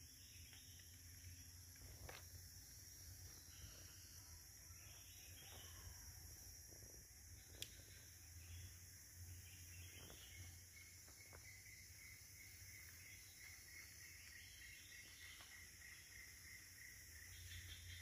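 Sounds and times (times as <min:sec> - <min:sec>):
faint insect chorus: 0:00.0 - 0:18.0
thin insect trill: 0:00.0 - 0:18.0.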